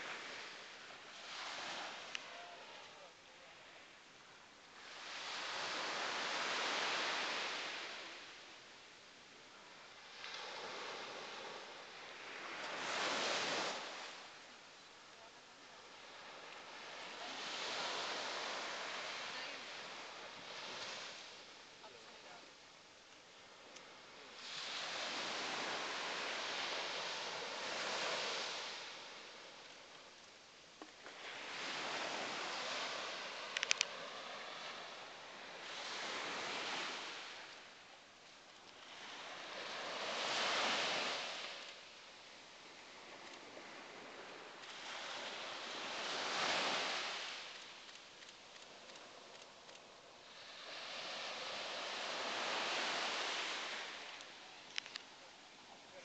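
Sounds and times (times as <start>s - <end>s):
small waves washing on sand: 0.0s - 56.0s.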